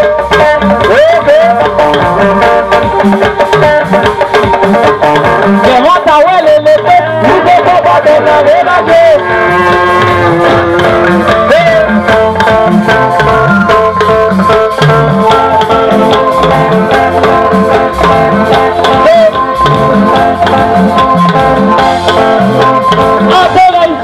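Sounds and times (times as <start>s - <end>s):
band music through speakers: 0.0s - 24.0s.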